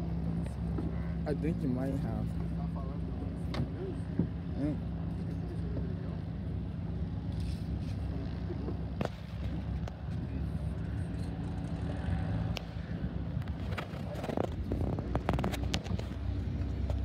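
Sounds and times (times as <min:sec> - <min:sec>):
plane engine idling: 0:00.0 - 0:17.0.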